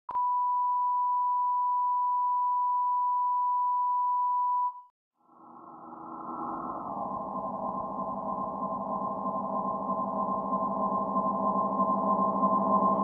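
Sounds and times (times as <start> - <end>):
pure tone beep: 0.1 - 4.9, 5.8 - 13.0.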